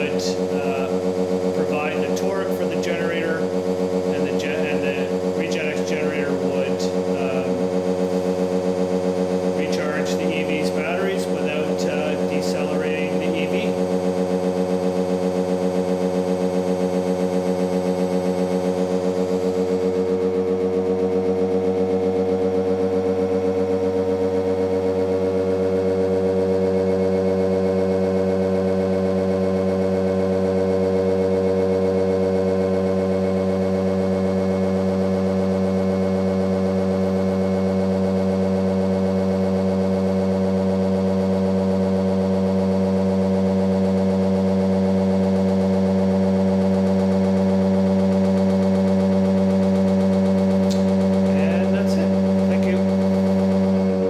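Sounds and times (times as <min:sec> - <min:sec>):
electric motor hum and whine: 0:00.0 - 0:54.0.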